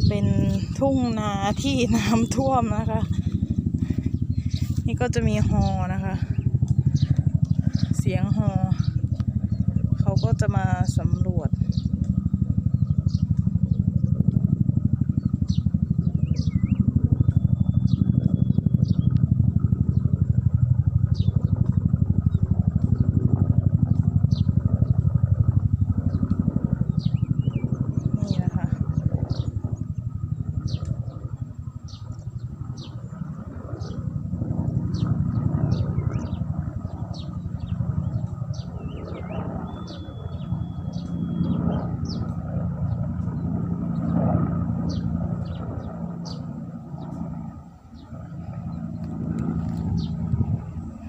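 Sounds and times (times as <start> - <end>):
birds chirping: 0.0 - 14.2, 15.1 - 51.0
helicopter rotor beating: 0.0 - 51.0
low engine rumble: 0.0 - 51.0.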